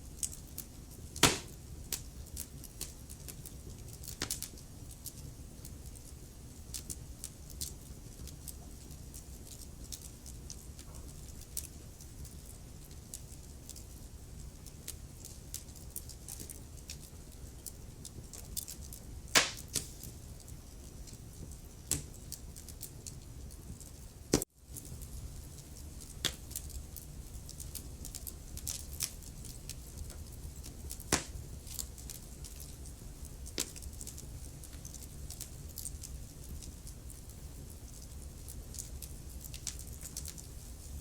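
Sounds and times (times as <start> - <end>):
low rumble of flame: 0.0 - 41.0
wood fire crackling: 0.0 - 41.0
fire popping: 0.1 - 41.0.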